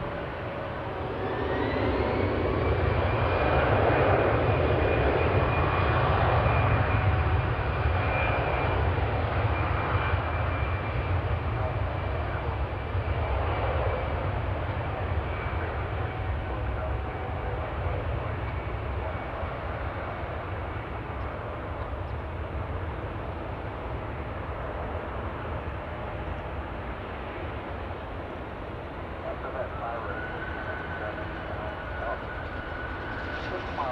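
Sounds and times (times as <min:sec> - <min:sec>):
jet aircraft engine rumble: 0:00.0 - 0:33.9.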